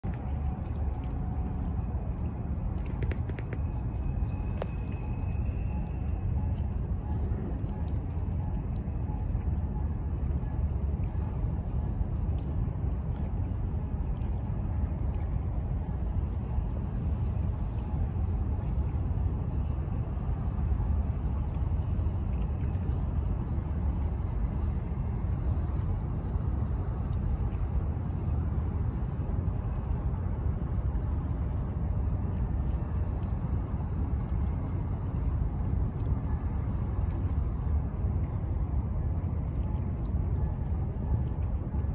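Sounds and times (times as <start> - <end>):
harbour ambience rumble: 0.0 - 41.9.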